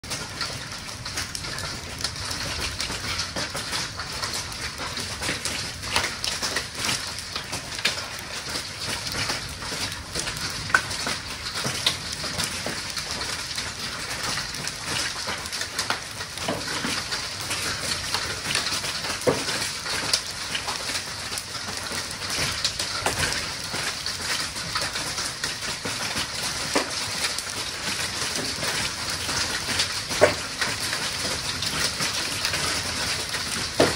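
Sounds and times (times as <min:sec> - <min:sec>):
hailstones striking roof: 0:00.0 - 0:33.9.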